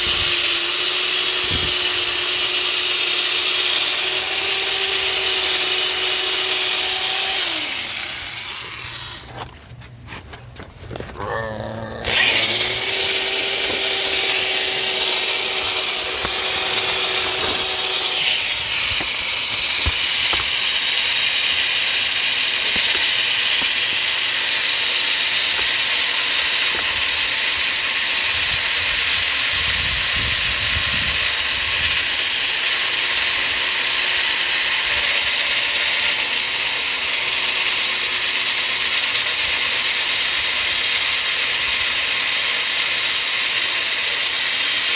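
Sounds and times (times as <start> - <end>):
cordless drill grinding into steel: 0.0 - 9.9, 10.9 - 44.9.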